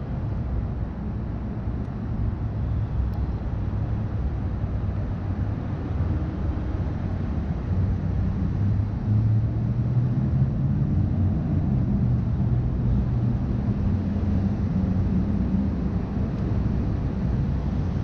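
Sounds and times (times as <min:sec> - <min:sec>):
city street traffic rumble: 0:00.0 - 0:18.0
low engine hum: 0:00.0 - 0:18.0.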